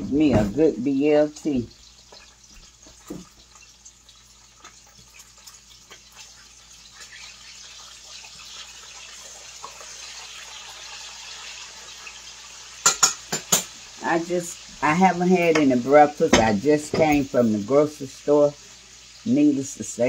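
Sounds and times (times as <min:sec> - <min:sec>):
bacon sizzling in a frying pan: 0:00.0 - 0:20.0.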